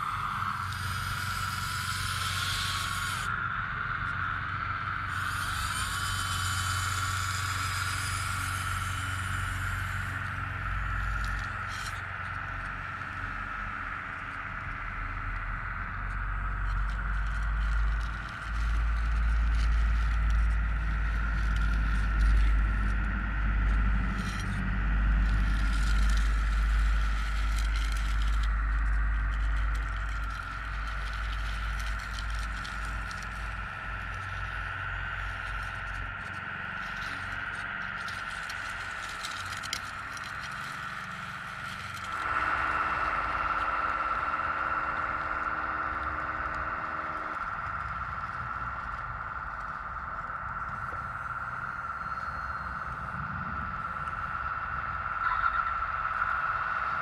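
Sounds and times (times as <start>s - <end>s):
high motor whine: 0.0s - 57.0s
low rumble: 0.0s - 57.0s.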